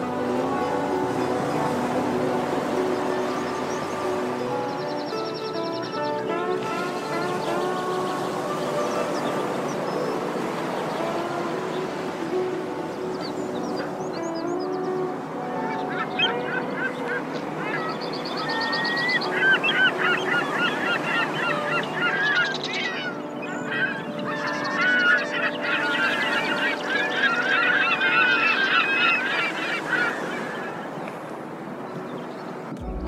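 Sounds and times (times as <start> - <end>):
flock of birds calling: 0.0 - 33.0.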